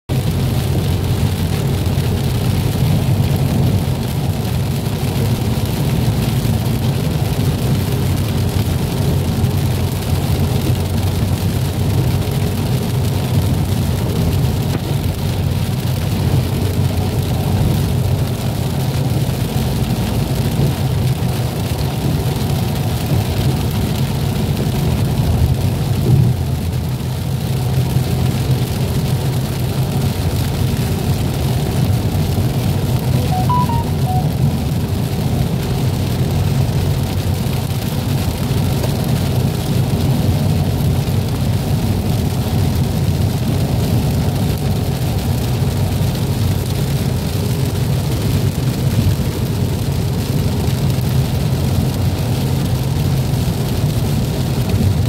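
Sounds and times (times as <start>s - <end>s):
road noise: 0.1s - 55.0s
vehicle engine drone: 0.1s - 55.0s.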